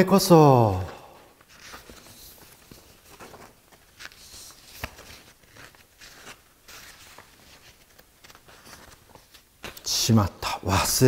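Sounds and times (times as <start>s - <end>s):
paper rustling: 0.8s - 10.0s.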